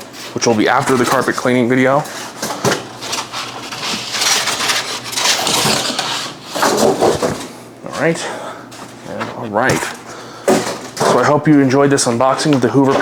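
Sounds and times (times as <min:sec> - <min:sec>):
rustling and scraping of parts: 0:00.0 - 0:13.0.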